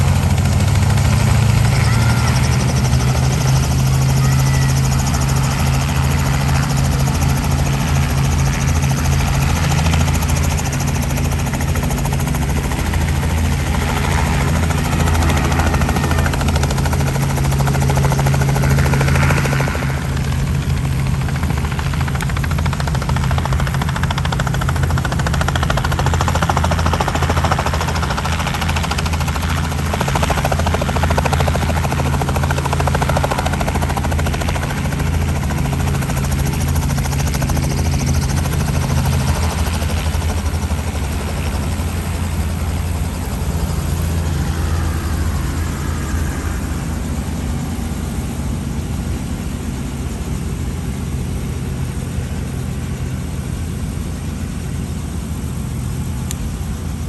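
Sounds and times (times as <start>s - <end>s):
helicopter running: 0.0s - 57.0s.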